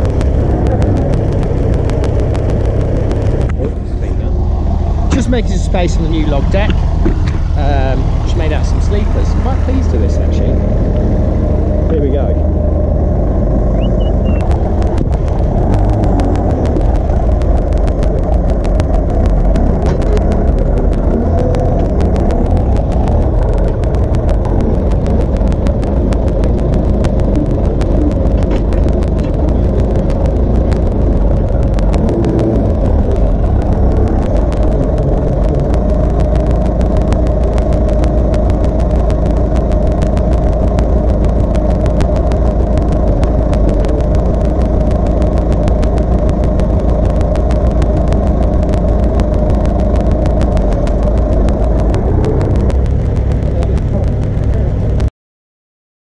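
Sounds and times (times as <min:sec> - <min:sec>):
diesel engine running: 0:00.0 - 0:55.1.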